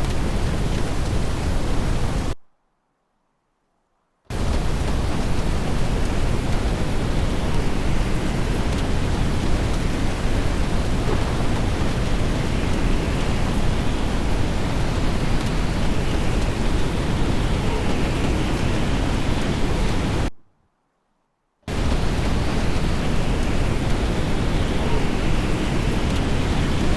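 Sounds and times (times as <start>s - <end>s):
wind buffeting microphone: 0.0s - 2.4s, 4.3s - 20.3s, 21.7s - 26.9s.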